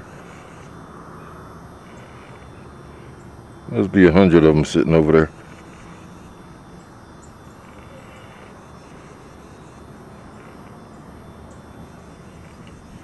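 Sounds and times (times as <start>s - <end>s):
faint insect chirring: 0.0s - 13.0s.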